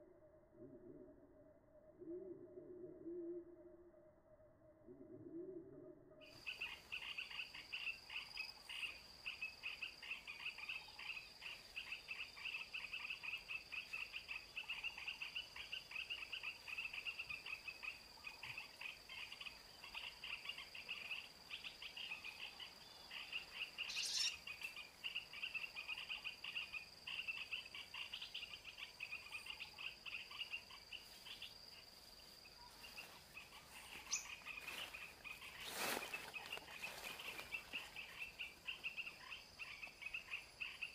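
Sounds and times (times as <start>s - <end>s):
insect high-pitched whine: 6.3s - 40.9s
insects rapid chirping: 6.3s - 40.9s.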